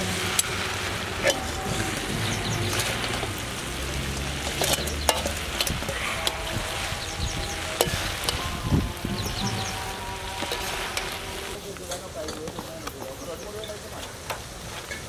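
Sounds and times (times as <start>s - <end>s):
metal spatulas scraping wok: 0.0s - 15.0s
noodles sizzling in wok: 0.0s - 15.0s.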